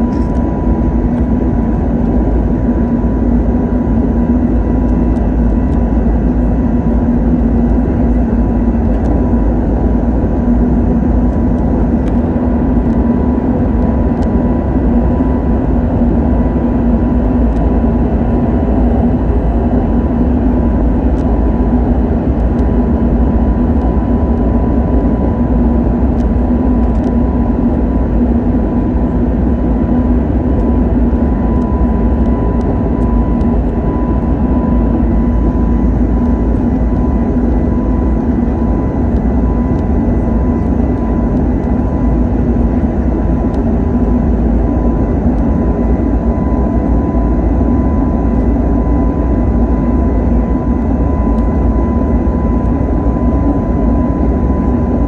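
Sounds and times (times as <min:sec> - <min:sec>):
jet engine rush inside cabin: 0:00.0 - 0:55.0
low engine hum: 0:00.0 - 0:55.0.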